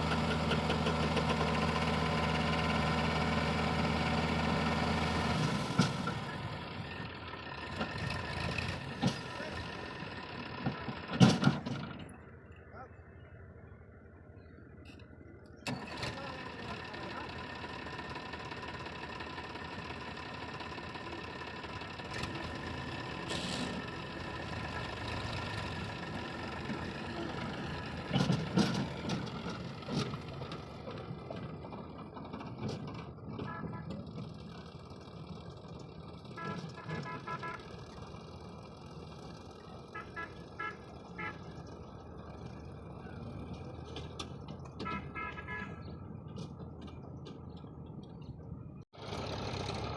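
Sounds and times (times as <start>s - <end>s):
diesel engine of heavy machinery: 0.0s - 49.9s.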